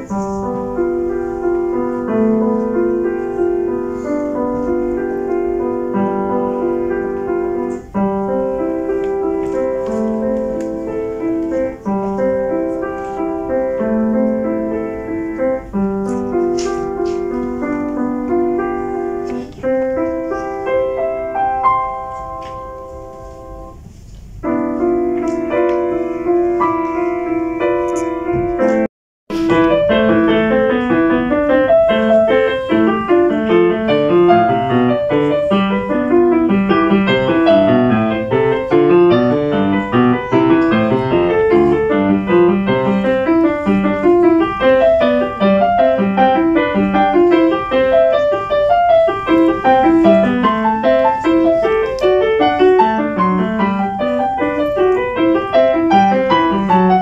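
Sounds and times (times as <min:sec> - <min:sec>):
fast piano passage: 0:00.0 - 0:57.0
piano held chords: 0:00.0 - 0:57.0.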